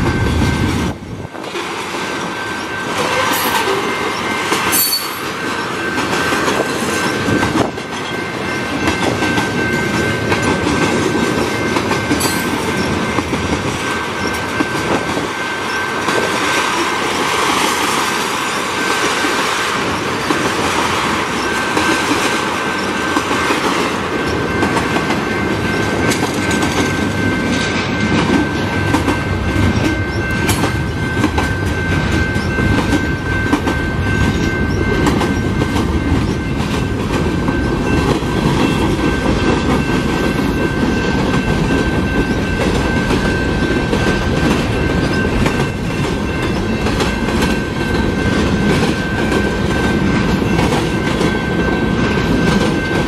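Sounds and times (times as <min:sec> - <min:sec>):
crossing warning bell ringing: 0:00.0 - 0:53.0
freight train rumbling past: 0:00.0 - 0:53.0.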